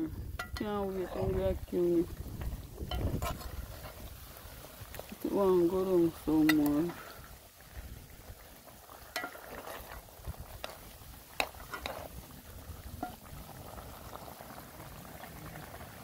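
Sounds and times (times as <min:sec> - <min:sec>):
curry bubbling in a pot: 0:00.0 - 0:16.0.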